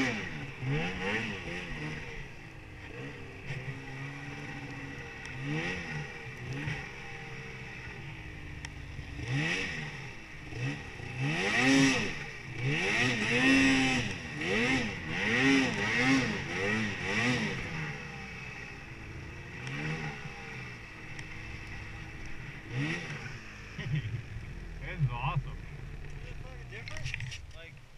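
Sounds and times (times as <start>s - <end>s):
snowmobile engine revving: 0.0s - 27.8s.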